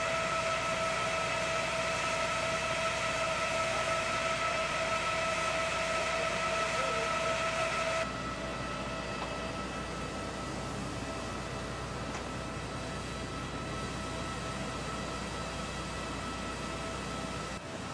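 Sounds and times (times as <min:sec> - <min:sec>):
machinery hum with high whine: 0:00.0 - 0:17.9.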